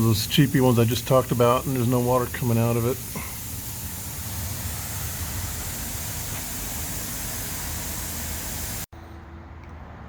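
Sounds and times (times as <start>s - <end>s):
sprinkler water spraying: 0.0s - 8.9s.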